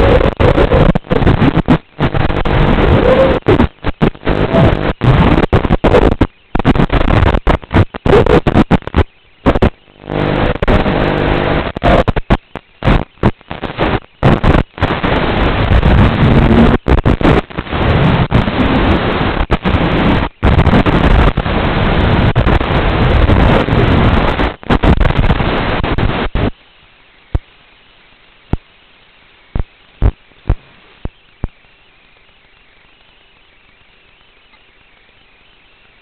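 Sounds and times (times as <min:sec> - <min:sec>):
faint hiss: 0:00.0 - 0:36.0.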